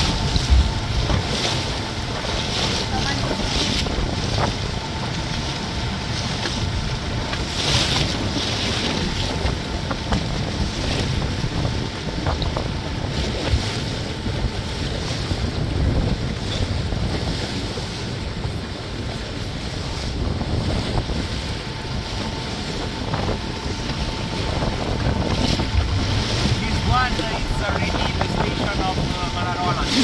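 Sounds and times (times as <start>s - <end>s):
boat motor rumble: 0.0s - 30.0s
water splashing along hull: 0.0s - 30.0s
wind buffeting microphone: 0.0s - 30.0s.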